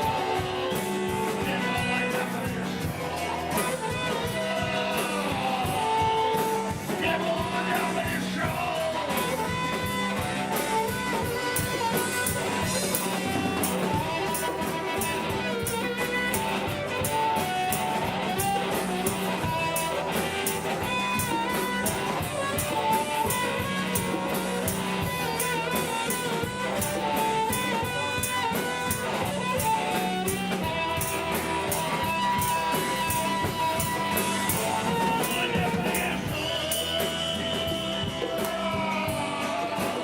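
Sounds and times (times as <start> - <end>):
drum kit beat: 0.0 - 40.0
guitar: 0.0 - 40.0
sustained melody line: 0.0 - 40.0.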